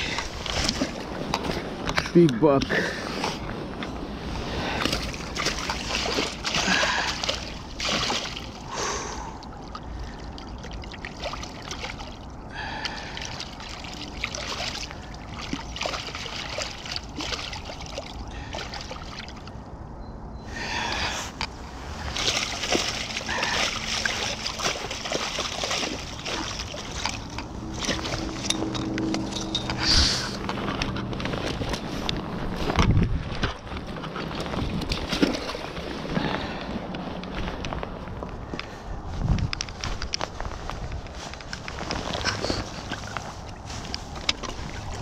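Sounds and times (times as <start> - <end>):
stream water splashing and sloshing: 0.0 - 45.0.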